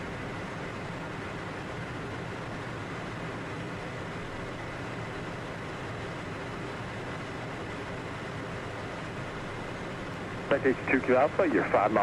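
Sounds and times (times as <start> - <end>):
faint high whine: 0.0 - 12.0
jet cockpit airflow and engine noise: 0.0 - 12.0.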